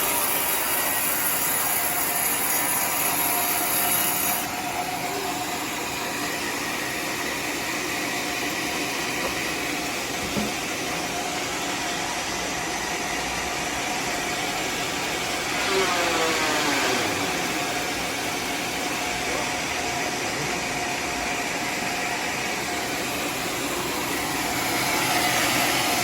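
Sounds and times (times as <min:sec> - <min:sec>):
sawmill blade cutting wood: 0:00.0 - 0:19.5, 0:22.0 - 0:26.0
sawmill motor running: 0:00.0 - 0:26.0.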